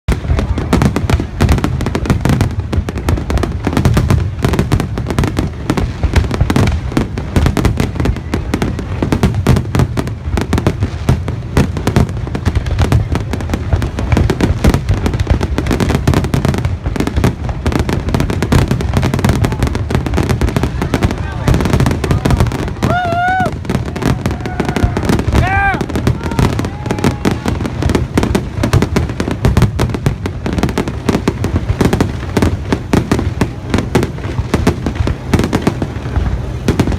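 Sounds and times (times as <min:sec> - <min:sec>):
fireworks barrage: 0:00.1 - 0:36.9.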